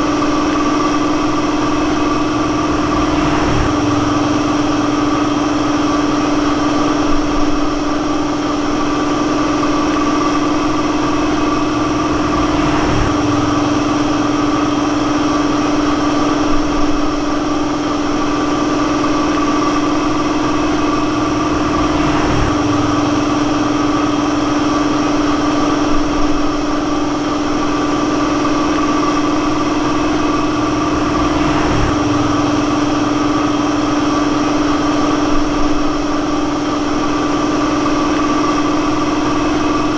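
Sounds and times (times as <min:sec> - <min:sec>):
motor droning: 0:00.0 - 0:39.9.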